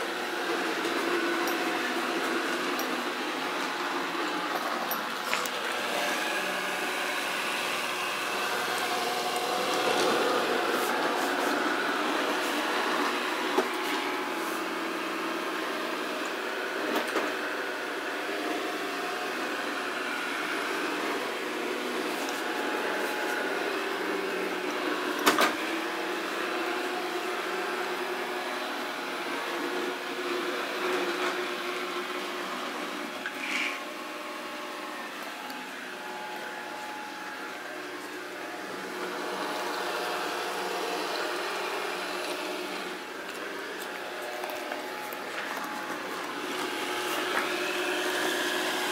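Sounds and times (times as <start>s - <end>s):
robot vacuum motor whir: 0.6s - 28.2s, 28.8s - 48.9s.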